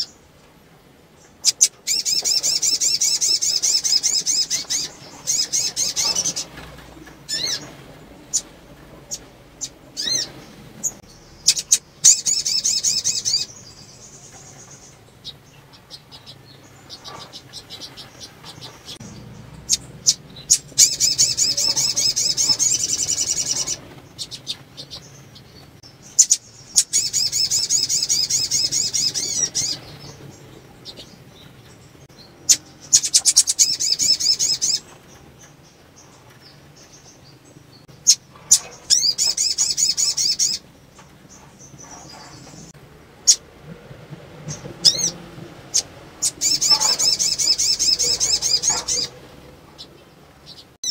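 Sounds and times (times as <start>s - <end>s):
bird twittering trills: 1.2s - 43.4s, 44.4s - 50.9s.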